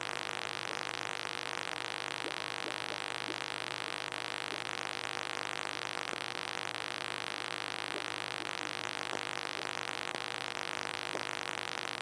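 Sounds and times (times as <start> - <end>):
aquarium equipment hiss and hum: 0.0 - 12.0.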